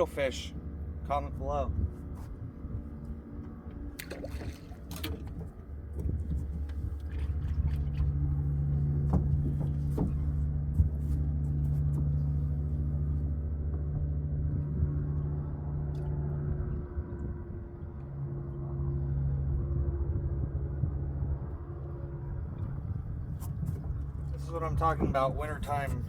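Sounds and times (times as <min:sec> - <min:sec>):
motor humming steadily: 0:00.0 - 0:26.0.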